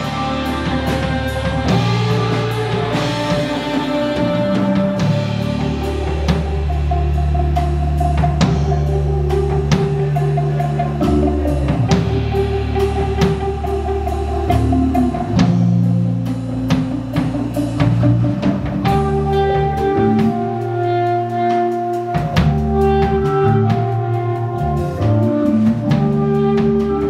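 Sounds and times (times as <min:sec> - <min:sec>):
drum kit steady beat: 0:00.0 - 0:27.0
electric bass low notes: 0:00.0 - 0:27.0
held higher notes: 0:00.0 - 0:27.0.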